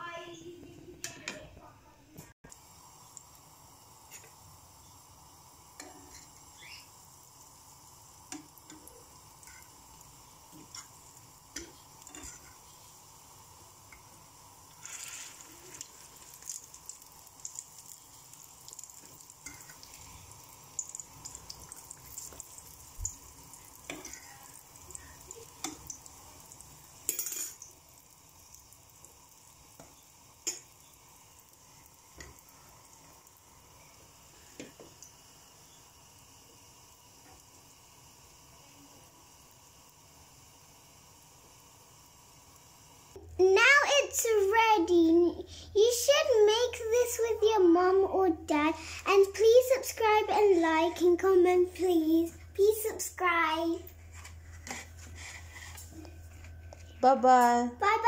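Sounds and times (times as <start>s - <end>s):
bread sizzling in oil: 2.5s - 58.0s.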